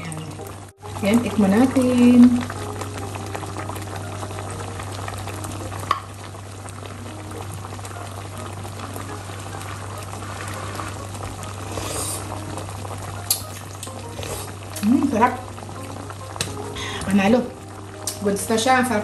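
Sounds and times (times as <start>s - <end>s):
sauce bubbling in a pot: 0.0s - 19.0s.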